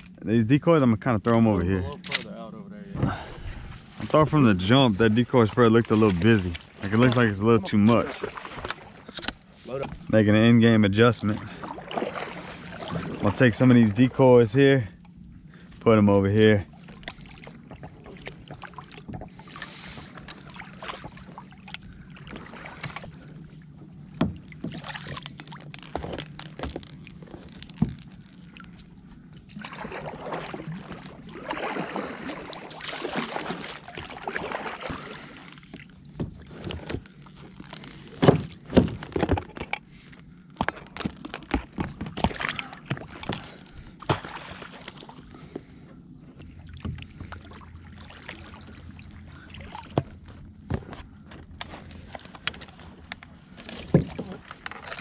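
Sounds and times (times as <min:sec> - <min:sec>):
water sloshing and splashing: 0:01.2 - 0:55.0.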